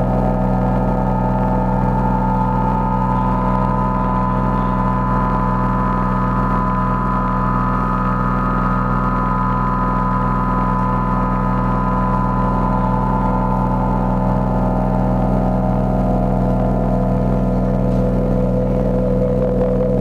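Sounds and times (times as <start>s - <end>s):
low hum: 0.0s - 20.0s
synthesizer drone: 0.0s - 20.0s.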